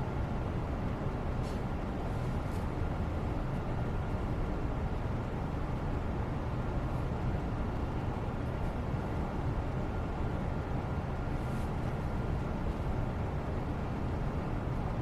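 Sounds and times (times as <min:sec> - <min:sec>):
low rumbling white noise: 0:00.0 - 0:15.0.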